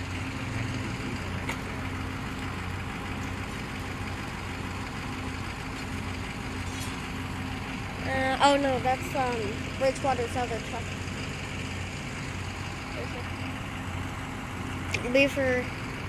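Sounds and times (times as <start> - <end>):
fire engine idling: 0.0 - 16.0.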